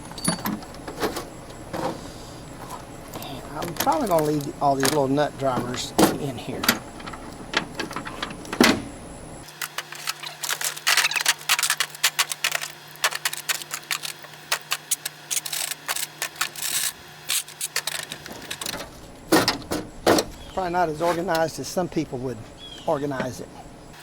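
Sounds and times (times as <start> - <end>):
low steady hum: 0.0 - 9.5, 10.2 - 24.0
hand tools clattering: 0.0 - 23.7.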